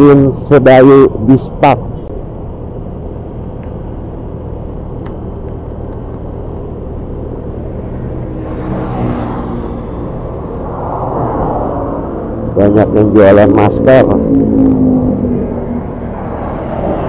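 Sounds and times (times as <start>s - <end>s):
motorcycle engine drone: 0.0s - 17.0s
road noise: 0.0s - 17.0s
rush of noise: 0.0s - 17.0s.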